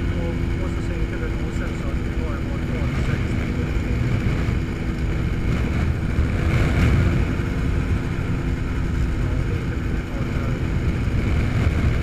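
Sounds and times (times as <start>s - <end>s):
light aircraft engine droning: 0.0s - 12.0s
wind rush: 1.9s - 12.0s.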